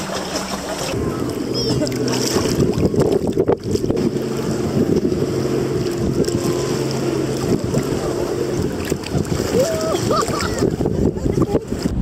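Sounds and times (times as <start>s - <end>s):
engine running steadily: 0.0s - 12.0s
wind buffeting microphone: 0.9s - 12.0s.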